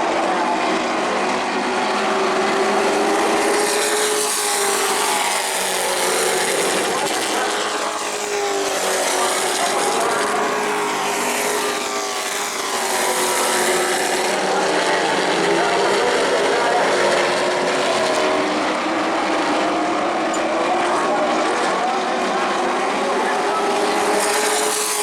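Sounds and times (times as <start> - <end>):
race trucks passing at speed: 0.0 - 25.0.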